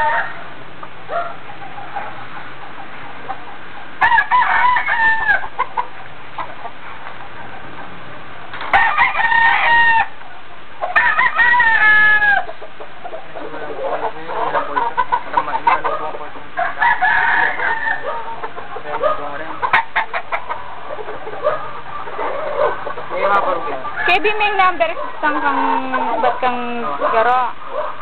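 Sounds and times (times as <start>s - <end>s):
roosters crowing: 0.0s - 28.0s.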